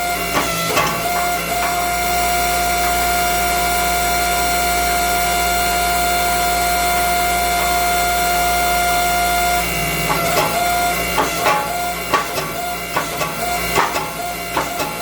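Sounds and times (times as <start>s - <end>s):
hydraulic press motor and pump: 0.0s - 15.0s.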